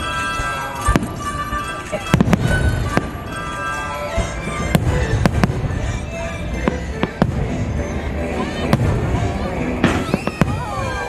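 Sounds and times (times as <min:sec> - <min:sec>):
loud music with held notes: 0:00.0 - 0:11.0.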